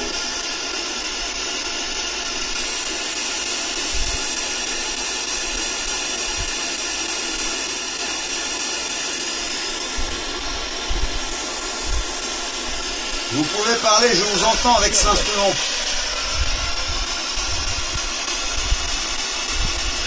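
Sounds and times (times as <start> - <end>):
loud static hiss: 0.0 - 20.0.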